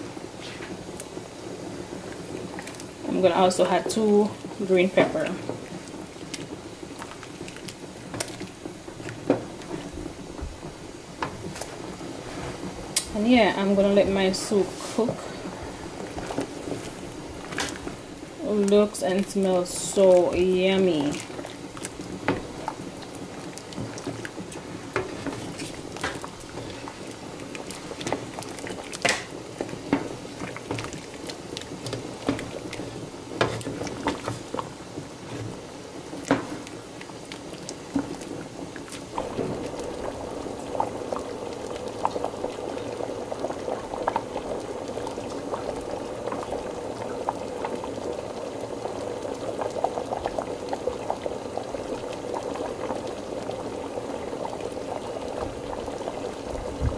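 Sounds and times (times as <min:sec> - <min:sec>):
soup boiling and bubbling: 0:00.0 - 0:56.9.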